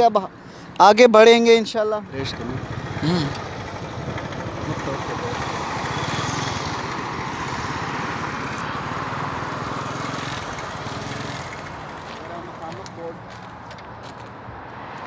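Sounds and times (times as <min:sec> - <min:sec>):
cars passing on road: 0:01.4 - 0:15.0.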